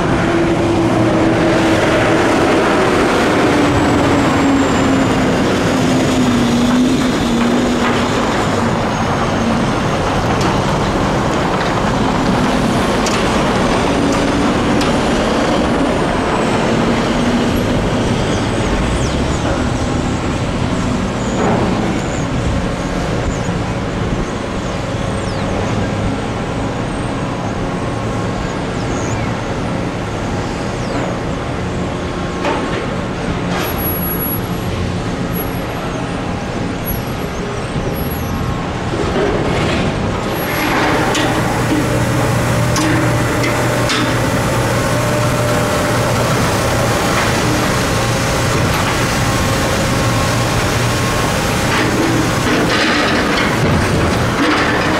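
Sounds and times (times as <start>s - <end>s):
diesel truck engine running: 0.0s - 54.9s
steady machinery hum: 0.0s - 54.9s.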